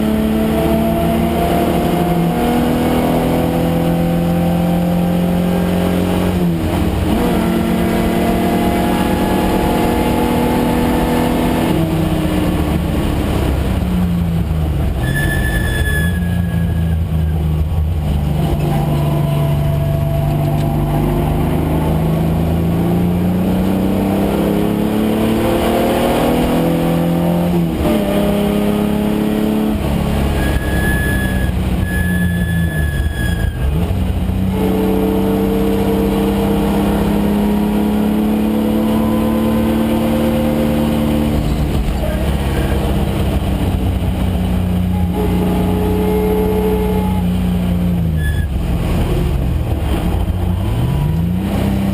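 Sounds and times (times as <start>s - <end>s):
racing car engine revving: 0.0s - 51.9s.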